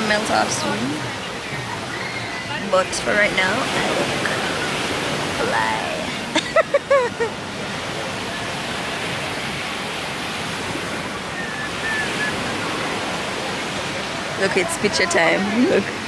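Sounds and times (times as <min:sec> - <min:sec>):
ocean surf: 0:00.0 - 0:16.0.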